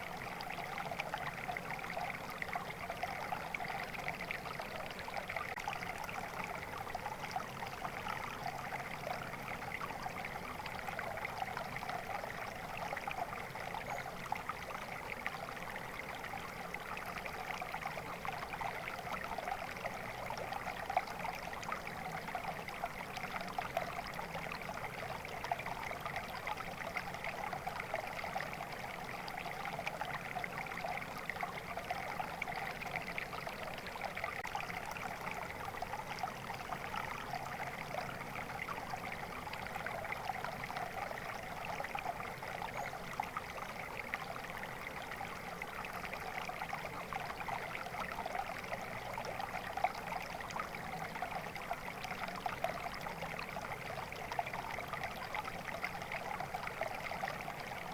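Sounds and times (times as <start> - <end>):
stream babbling: 0.0 - 57.9.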